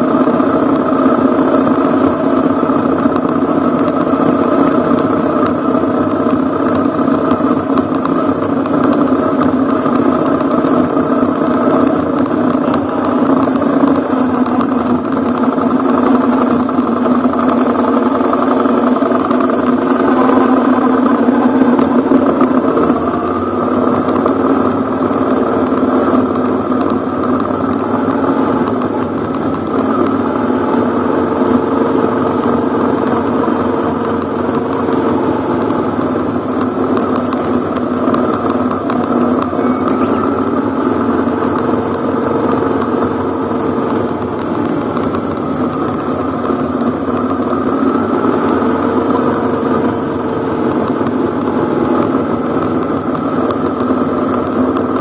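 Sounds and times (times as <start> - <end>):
bike rattling over gravel: 0.0 - 55.0
motorcycle engine running: 0.0 - 55.0.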